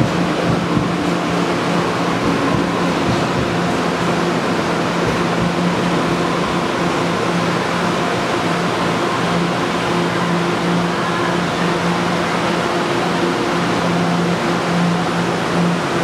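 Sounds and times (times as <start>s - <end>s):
electric drive humming: 0.0s - 16.0s
train wheels rumbling: 0.0s - 16.0s.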